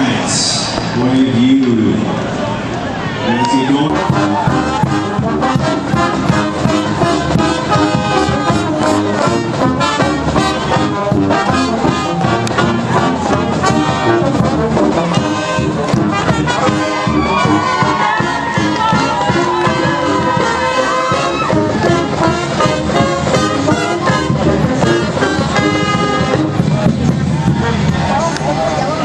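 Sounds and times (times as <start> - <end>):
brass band playing upbeat tune: 3.3 - 29.0.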